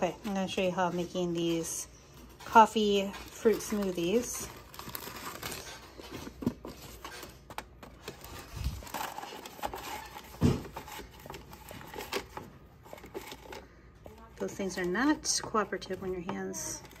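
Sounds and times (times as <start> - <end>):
paper coffee filter crinkling: 0.0 - 17.0.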